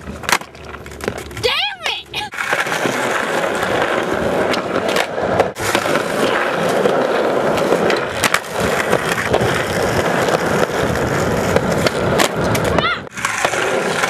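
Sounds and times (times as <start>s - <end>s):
skateboard clacking on ground: 0.0s - 14.0s
skateboard wheels rolling on concrete: 0.0s - 14.0s.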